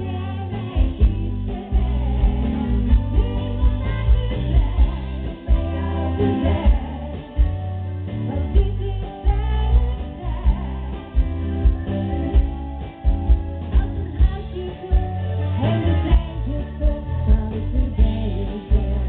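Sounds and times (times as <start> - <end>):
woman singing: 0.0 - 12.5, 13.6 - 19.0
electric bass: 0.0 - 19.0
drum kit beat: 0.8 - 7.9, 8.6 - 19.0.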